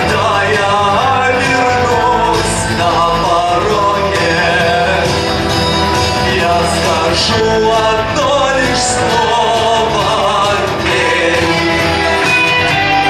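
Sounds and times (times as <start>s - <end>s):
loud backing music: 0.0s - 13.0s
person singing: 0.0s - 13.0s.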